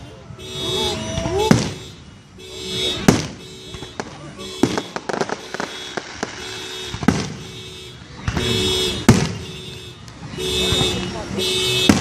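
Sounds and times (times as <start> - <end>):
firework bangs: 0.4 - 12.0.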